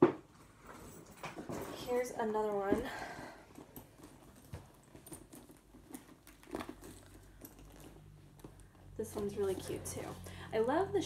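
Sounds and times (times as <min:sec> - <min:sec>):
handbag rustling: 0:00.4 - 0:11.0.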